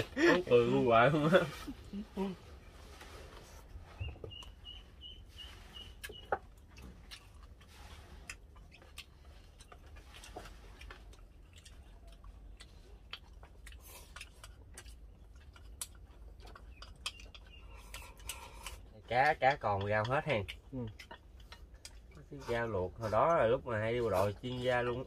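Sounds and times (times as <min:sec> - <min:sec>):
soft chewing: 0:00.0 - 0:25.0.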